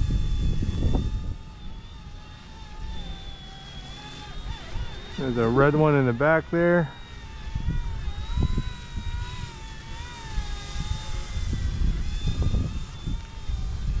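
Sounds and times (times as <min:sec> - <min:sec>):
toy helicopter rotor whine: 0:00.0 - 0:14.0
wind buffeting microphone: 0:00.0 - 0:14.0.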